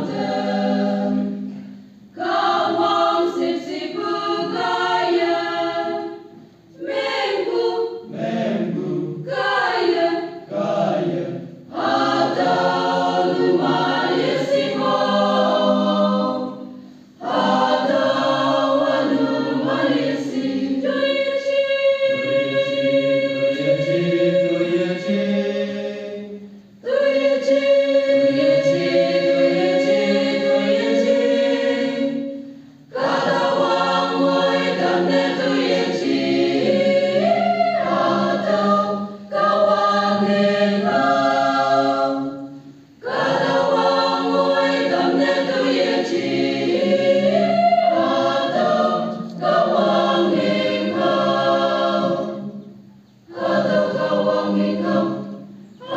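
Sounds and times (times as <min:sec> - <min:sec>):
mixed choir singing: 0:00.0 - 0:55.9.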